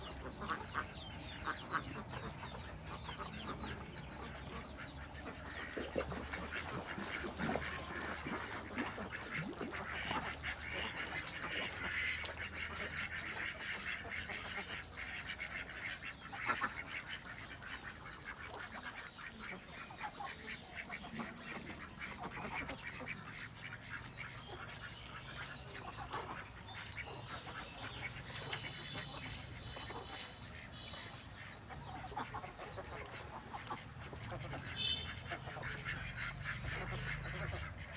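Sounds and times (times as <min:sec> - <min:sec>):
flock of birds calling: 0:00.0 - 0:37.9.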